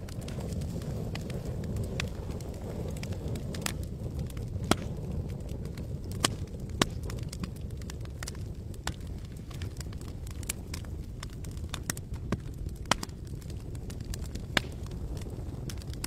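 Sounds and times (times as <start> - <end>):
flame rumbling: 0.0 - 16.0
wood crackling and popping: 0.0 - 16.0.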